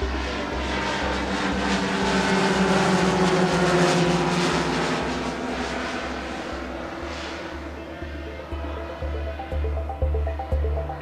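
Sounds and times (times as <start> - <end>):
model plane propellers droning: 0.0 - 11.0.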